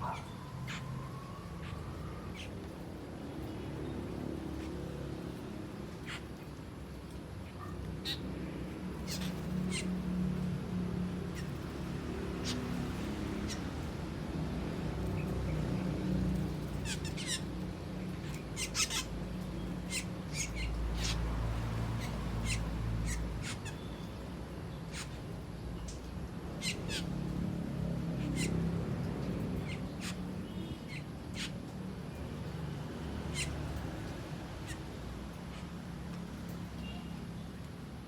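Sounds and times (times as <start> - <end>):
starlings calling: 0.0 - 6.5, 7.4 - 10.5, 11.2 - 14.0, 15.0 - 35.8.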